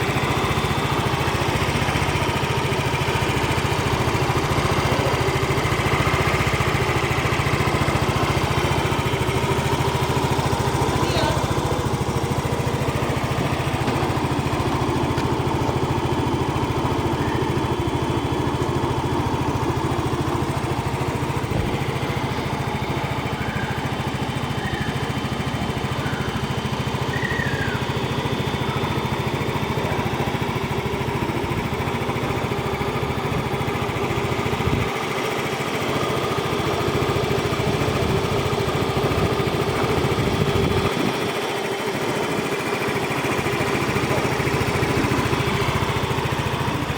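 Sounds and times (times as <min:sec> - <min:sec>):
scooter engine idling: 0:00.0 - 0:46.9.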